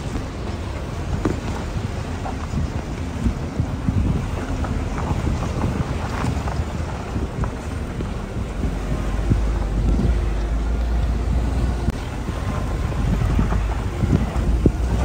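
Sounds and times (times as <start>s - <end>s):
vehicle rumbling on gravel road: 0.0s - 15.0s
wind buffeting microphone: 0.0s - 15.0s.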